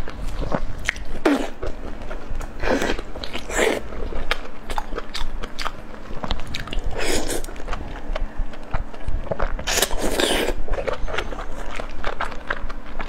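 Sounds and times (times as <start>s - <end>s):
chewing sausage: 0.0s - 13.0s.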